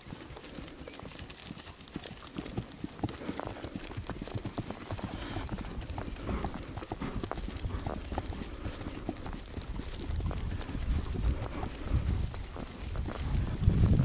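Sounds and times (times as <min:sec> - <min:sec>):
horse hoofbeats on dirt: 0:00.0 - 0:14.0.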